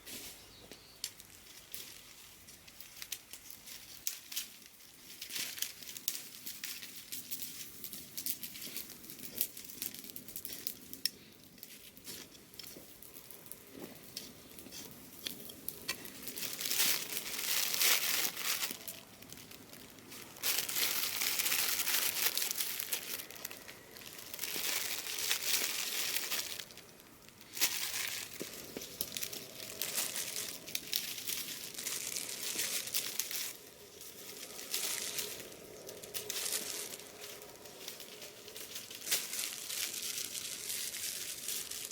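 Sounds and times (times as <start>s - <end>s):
dry rustling and scraping in soil: 0.0s - 41.9s.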